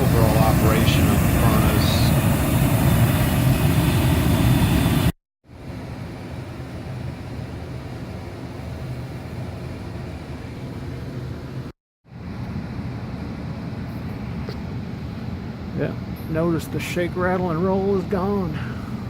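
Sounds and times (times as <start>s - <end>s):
furnace blower rumbling: 0.0s - 19.0s.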